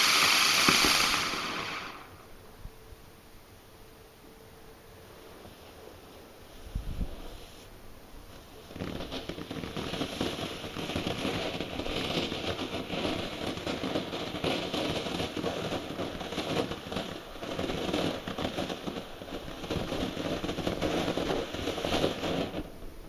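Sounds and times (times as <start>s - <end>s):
firework fountain hissing and crackling: 0.0s - 2.4s, 5.2s - 23.0s.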